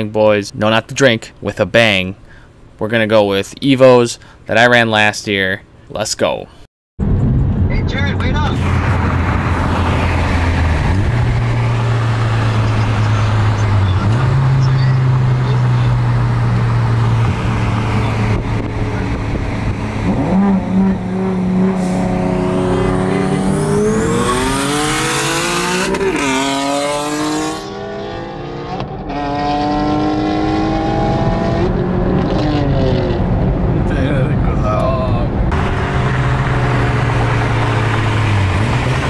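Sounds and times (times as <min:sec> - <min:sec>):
racing car engine at full throttle: 0:07.0 - 0:39.0.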